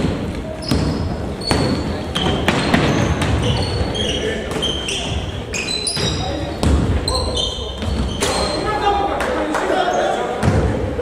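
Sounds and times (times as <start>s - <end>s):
sneaker squeaks: 0.0s - 8.9s
players' voices echoing: 0.0s - 11.0s.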